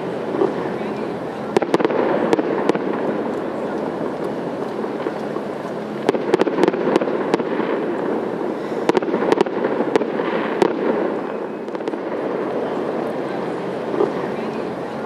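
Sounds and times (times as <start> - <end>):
fireworks cracking and popping: 0.0 - 15.0
steady background hum: 0.0 - 15.0.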